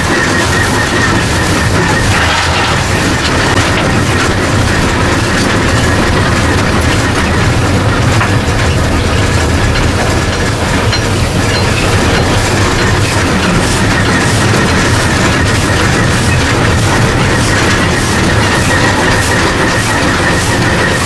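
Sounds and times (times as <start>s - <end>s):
steam locomotive rumbling: 0.0s - 21.0s
wheels on track: 0.0s - 21.0s.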